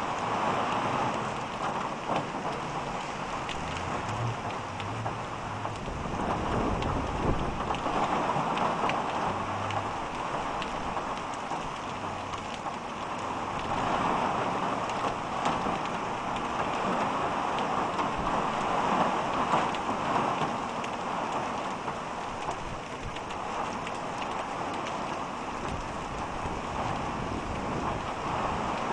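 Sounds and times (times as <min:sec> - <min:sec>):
heavy rain pouring on street: 0:00.0 - 0:28.9
raindrops tapping close by: 0:00.0 - 0:28.9.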